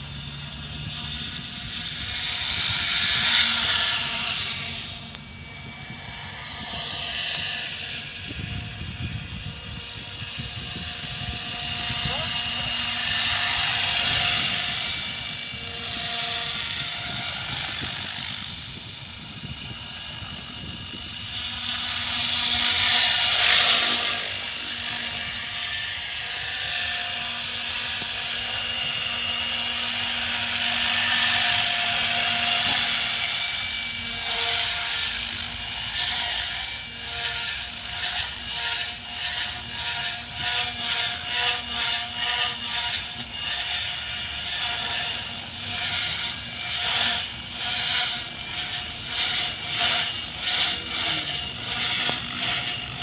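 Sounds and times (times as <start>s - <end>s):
model helicopter motor whine: 0.0s - 53.0s.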